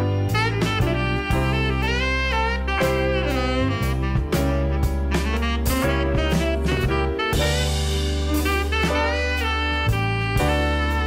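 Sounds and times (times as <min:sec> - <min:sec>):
drums: 0:00.0 - 0:11.0
saxophone melody: 0:00.0 - 0:11.0
steady bass: 0:00.0 - 0:11.0.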